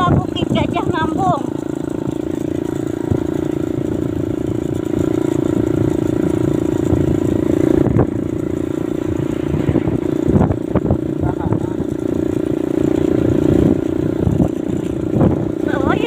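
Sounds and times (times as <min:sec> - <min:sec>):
motorcycle engine running: 0:00.0 - 0:16.0
road rumble: 0:00.0 - 0:16.0
wind: 0:00.0 - 0:16.0.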